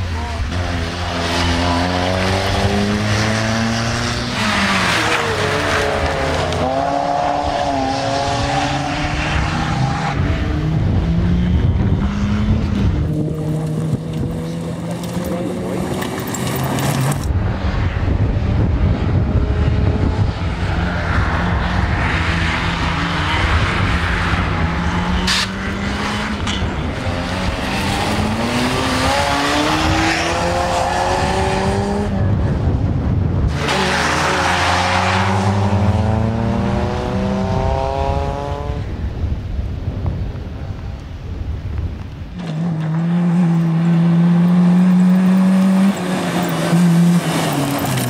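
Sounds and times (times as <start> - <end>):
rally car engine accelerating: 0.0 - 39.0, 42.4 - 48.0.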